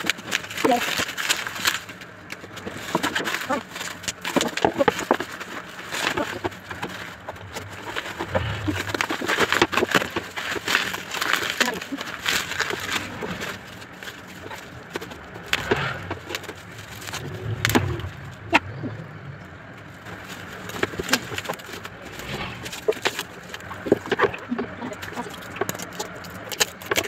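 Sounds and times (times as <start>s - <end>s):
plastic wrapping crinkling: 0.0s - 18.9s, 19.7s - 27.0s.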